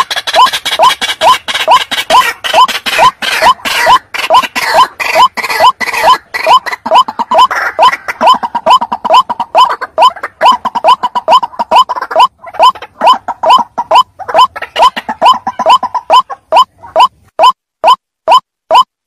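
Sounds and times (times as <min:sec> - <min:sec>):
waterhen calling: 0:00.0 - 0:17.6.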